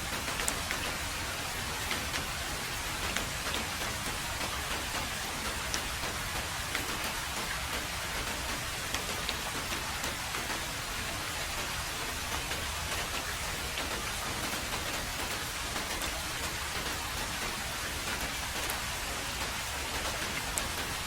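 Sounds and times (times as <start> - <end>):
heavy rain on a road: 0.0 - 21.0.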